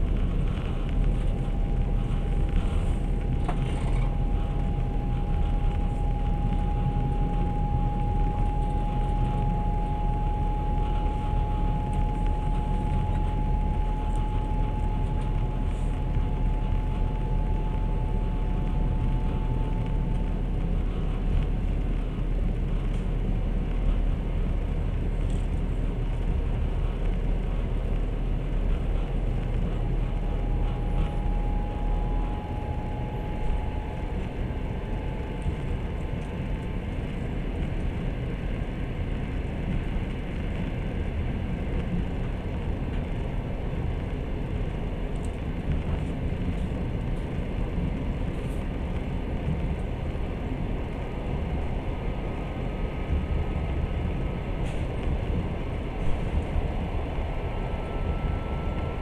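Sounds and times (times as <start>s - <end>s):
faint thin whine: 0.0s - 59.0s
train wheels rumbling on rails: 0.0s - 59.0s.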